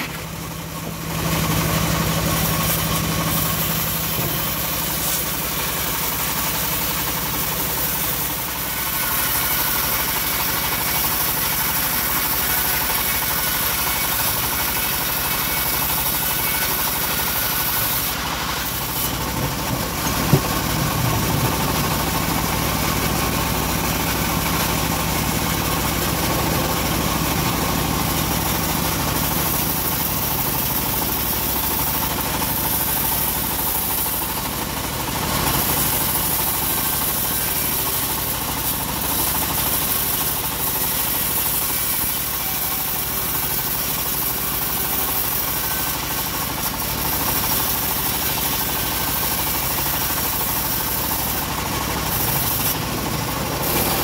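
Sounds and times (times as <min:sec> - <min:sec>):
bandsaw cutting wood: 0:00.0 - 0:54.0.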